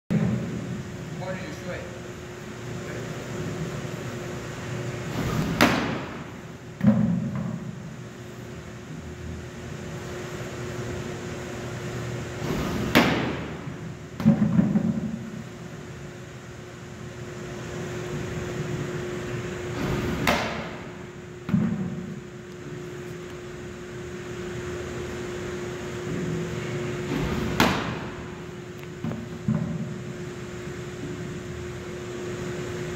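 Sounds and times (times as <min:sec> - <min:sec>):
steady hum: 0:00.1 - 0:32.9.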